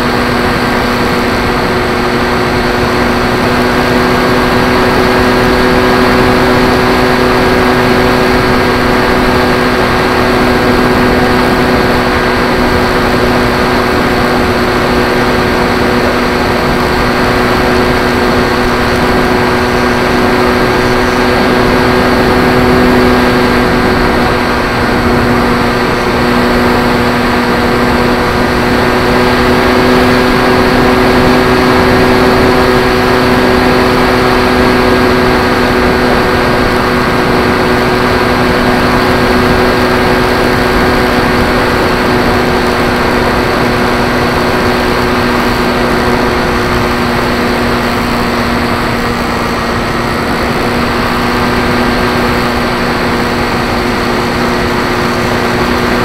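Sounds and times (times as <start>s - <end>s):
electric motor and propeller hum: 0.0s - 56.0s
rush of airflow: 0.0s - 56.0s.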